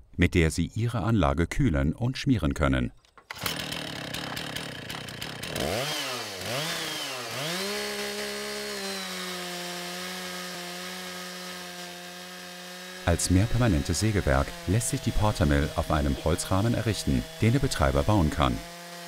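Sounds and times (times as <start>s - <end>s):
chainsaw cutting through log: 3.3s - 19.0s.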